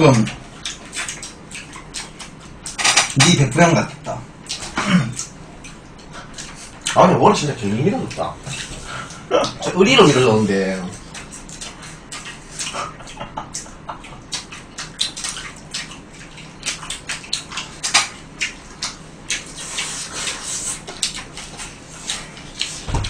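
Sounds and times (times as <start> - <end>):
chewing fried chicken: 0.0 - 23.0.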